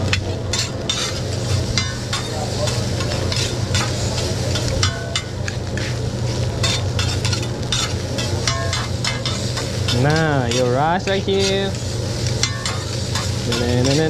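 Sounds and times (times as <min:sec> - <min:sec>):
rice sizzling on a griddle: 0:00.0 - 0:14.0
steady low hum: 0:00.0 - 0:14.0
metal spatulas scraping and clacking: 0:00.1 - 0:06.0, 0:06.6 - 0:14.0.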